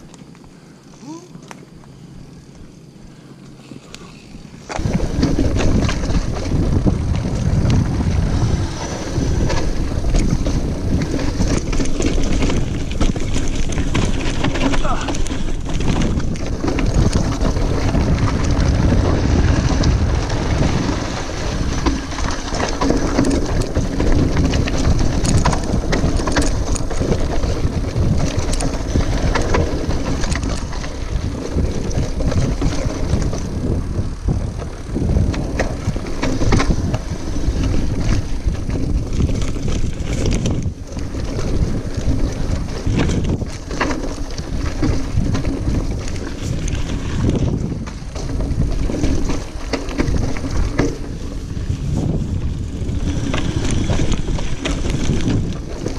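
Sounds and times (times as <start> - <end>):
bike rattling clicks and knocks: 3.3 - 55.9
tyres rumbling over dirt and rocks: 3.3 - 55.9
wind buffeting microphone: 4.3 - 55.9.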